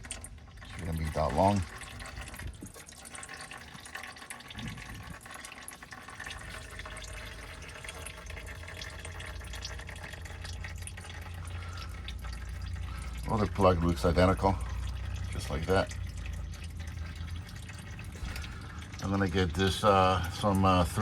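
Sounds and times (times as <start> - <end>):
fluid trickling into a pan: 0.0 - 21.0.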